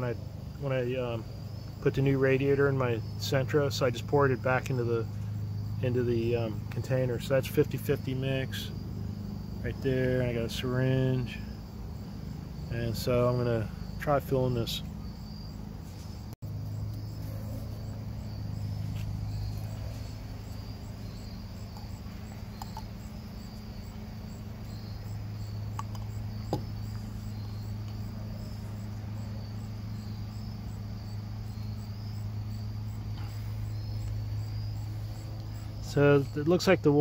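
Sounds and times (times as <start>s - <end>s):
crickets chirping: 0.0s - 37.0s
low hum: 0.0s - 37.0s.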